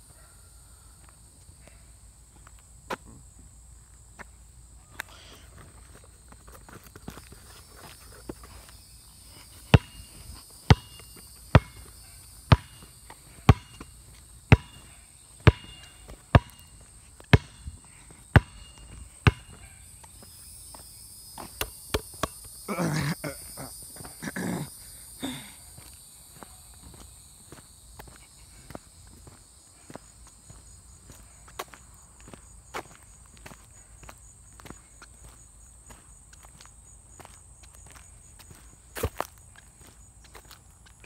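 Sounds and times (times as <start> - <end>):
footsteps on asphalt: 4.0 - 22.1, 25.7 - 41.0.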